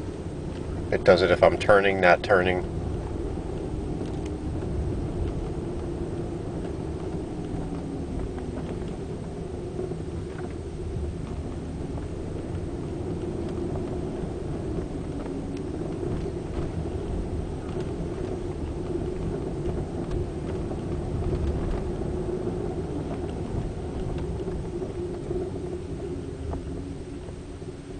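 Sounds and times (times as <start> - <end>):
road and drivetrain rumble: 0.0 - 27.9.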